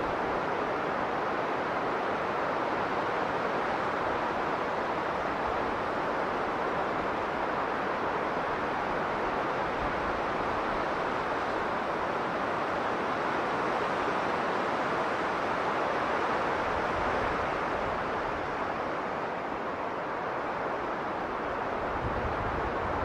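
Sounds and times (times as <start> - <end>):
strong blizzard wind: 0.0 - 23.0.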